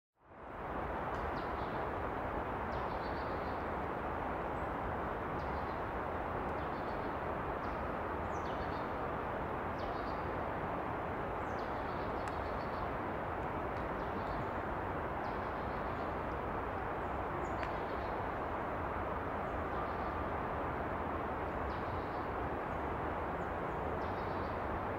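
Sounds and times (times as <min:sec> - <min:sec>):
steady rushing background noise: 0:00.4 - 0:24.9.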